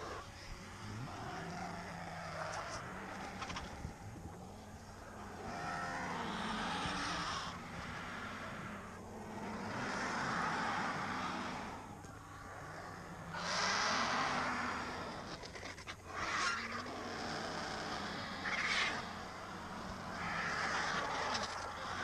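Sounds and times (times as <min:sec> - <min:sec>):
vultures hissing: 0:00.0 - 0:22.0.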